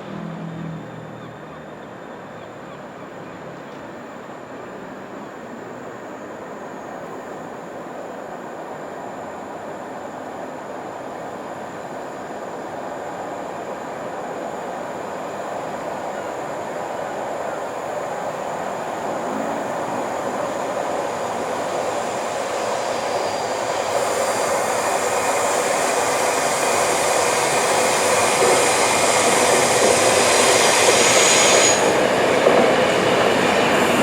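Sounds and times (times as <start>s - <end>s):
train running noise: 0.0s - 34.0s
high-pitched hiss from rails: 6.3s - 34.0s.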